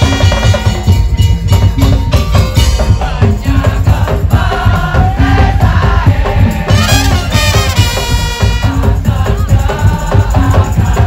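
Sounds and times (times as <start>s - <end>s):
driving drumming and percussion: 0.0s - 11.0s
heavy bass: 0.0s - 11.0s.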